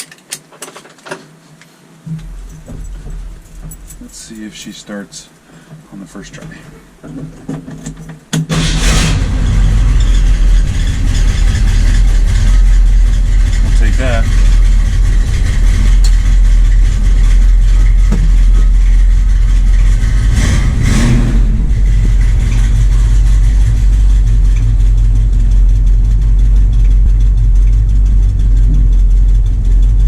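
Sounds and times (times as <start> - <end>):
car engine rumbling: 2.0 - 30.0.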